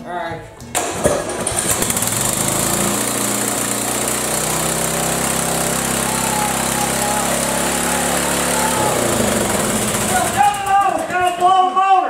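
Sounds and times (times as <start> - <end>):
mower engine revving at high speed: 1.3 - 11.1.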